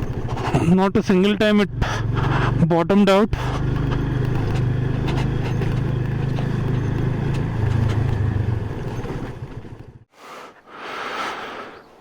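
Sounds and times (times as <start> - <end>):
motorcycle engine running: 0.0 - 10.1
road noise: 0.0 - 12.0.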